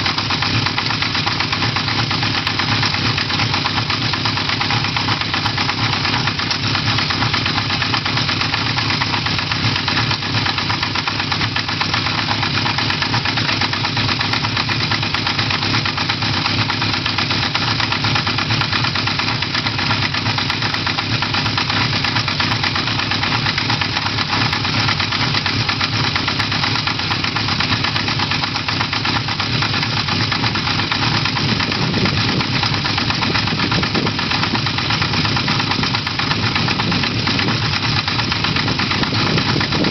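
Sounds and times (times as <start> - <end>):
motorcycle engine clattering: 0.0 - 39.9.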